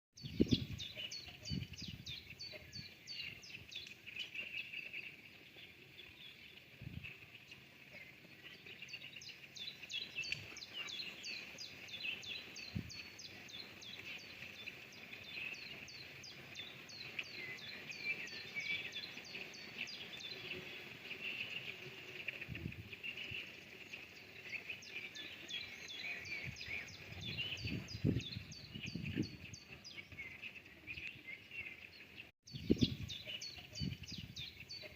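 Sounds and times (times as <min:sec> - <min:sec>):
birds chirping and singing: 0:00.2 - 0:34.9.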